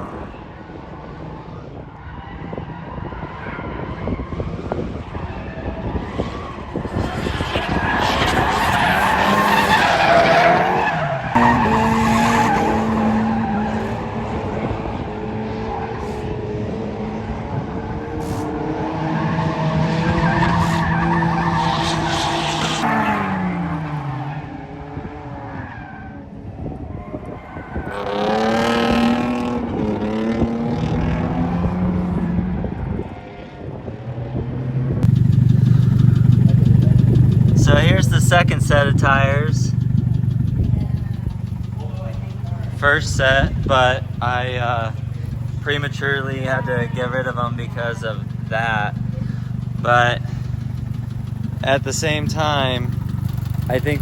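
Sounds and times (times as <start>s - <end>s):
tyres squealing and skidding: 0.0s - 16.6s, 17.9s - 30.4s, 35.0s - 54.0s
car engine revving: 0.0s - 54.0s.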